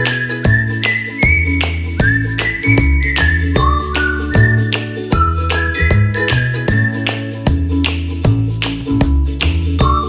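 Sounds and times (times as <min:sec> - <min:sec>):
upbeat music with bass and beat: 0:00.0 - 0:10.0.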